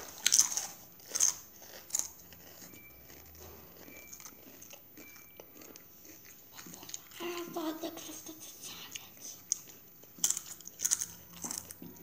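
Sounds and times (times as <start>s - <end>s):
tortilla chips crunching: 0.0s - 7.1s, 9.5s - 12.0s
chewing: 0.0s - 12.0s.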